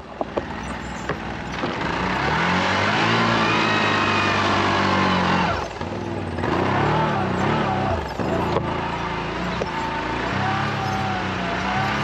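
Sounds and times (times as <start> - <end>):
vehicle engine revving under load: 0.2 - 12.0.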